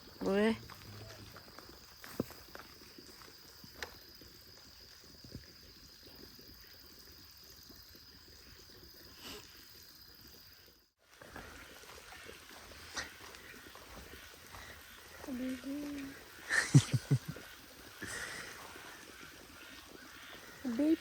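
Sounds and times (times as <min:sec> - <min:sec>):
water trickling: 0:00.3 - 0:21.0.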